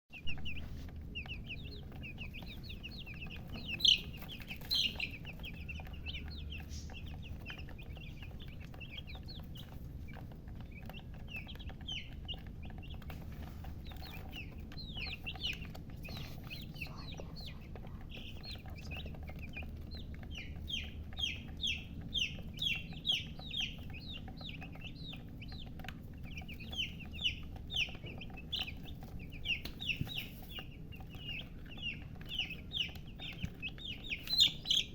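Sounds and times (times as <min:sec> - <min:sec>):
baby chicks peeping: 0:00.1 - 0:34.9
steady low hum: 0:00.2 - 0:34.9.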